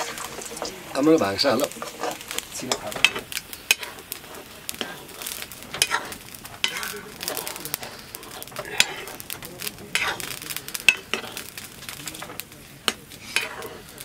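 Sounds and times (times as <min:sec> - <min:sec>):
frying sizzle: 0:00.0 - 0:14.0
metal ladle scraping wok: 0:00.0 - 0:14.0.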